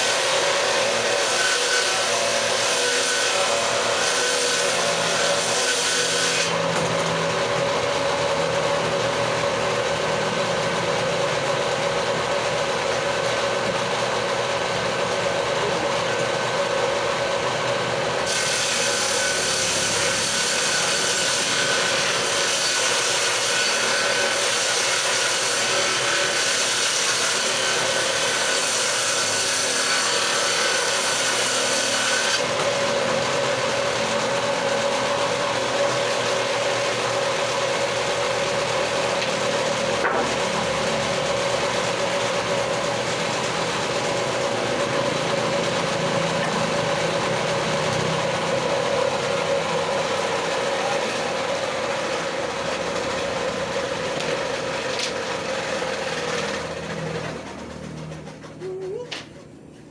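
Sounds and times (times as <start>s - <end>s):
power tool cutting wood: 0.0s - 58.7s.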